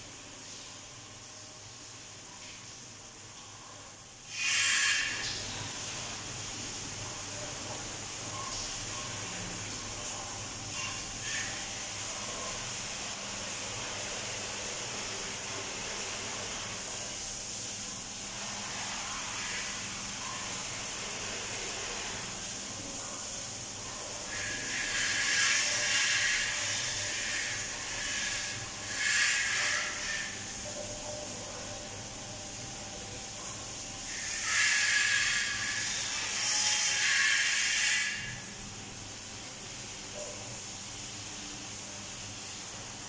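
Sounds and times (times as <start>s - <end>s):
water spraying in fine mist: 0.0s - 36.4s, 37.2s - 43.0s.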